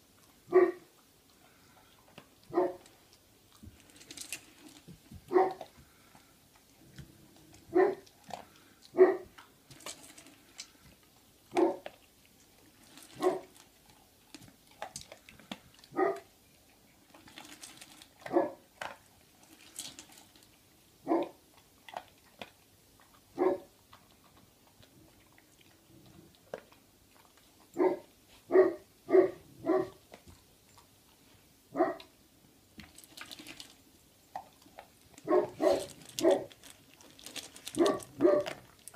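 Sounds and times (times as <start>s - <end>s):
dog crunching kibble in metal bowl: 2.2s - 28.0s, 32.8s - 38.9s.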